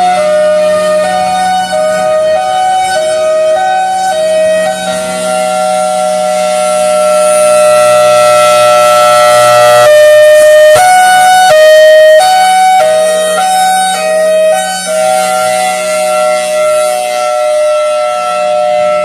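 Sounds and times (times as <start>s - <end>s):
warning siren hi-lo signal: 0.0s - 19.0s.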